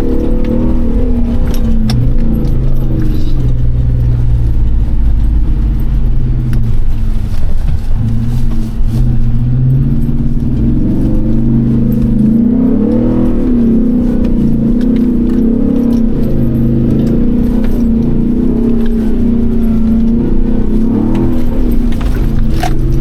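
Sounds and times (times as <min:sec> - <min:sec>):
light rattle: 0:00.0 - 0:23.0
truck engine revving under load: 0:00.0 - 0:23.0.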